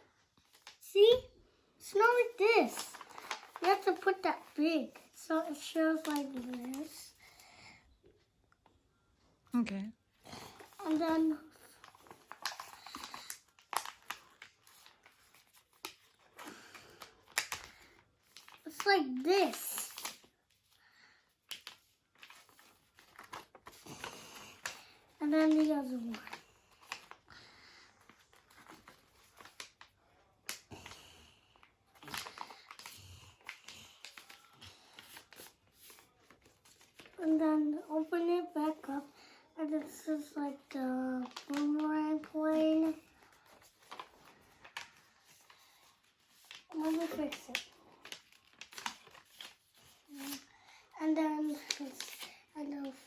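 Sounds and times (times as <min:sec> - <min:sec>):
paper being folded and creased: 0:00.4 - 0:01.2, 0:01.8 - 0:07.4, 0:10.4 - 0:20.8, 0:21.4 - 0:27.3, 0:27.9 - 0:53.0
paper crinkling rustles: 0:00.4 - 0:01.2, 0:01.8 - 0:07.5, 0:10.4 - 0:53.0.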